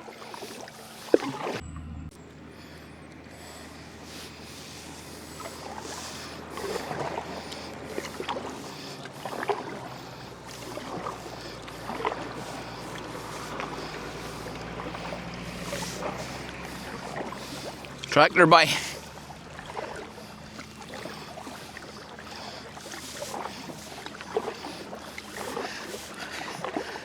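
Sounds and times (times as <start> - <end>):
paddle strokes splashing in water: 0.0 - 1.6, 2.6 - 27.0
faint low engine hum: 0.0 - 27.0.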